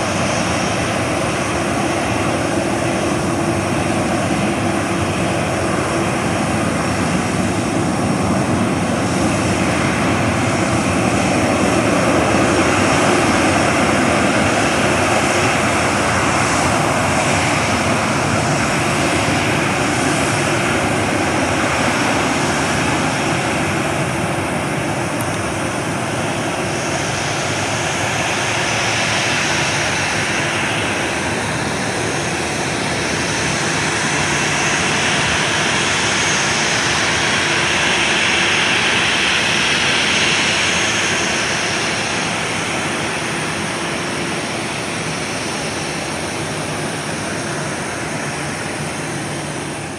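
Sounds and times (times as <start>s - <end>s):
jet engines running: 0.0s - 49.9s.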